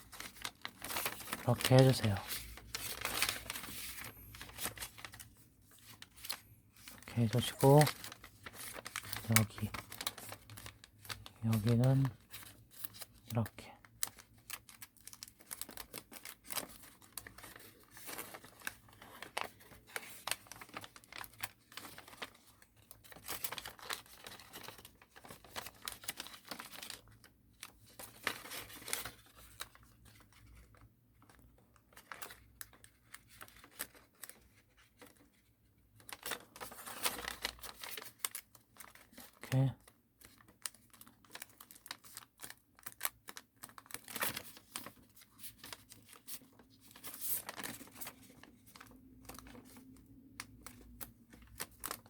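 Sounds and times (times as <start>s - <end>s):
paper being folded and creased: 0.0s - 52.0s.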